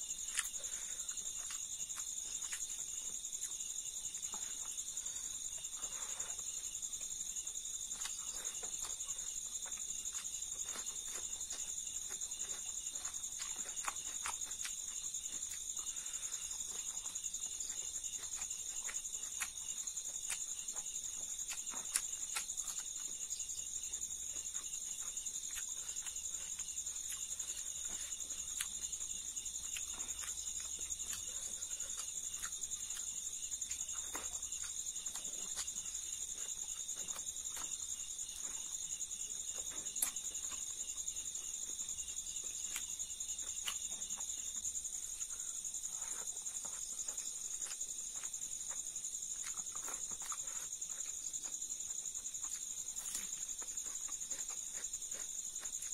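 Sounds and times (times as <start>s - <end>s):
insects chirring: 0.0s - 55.9s
person chewing crunchy food: 0.0s - 55.9s.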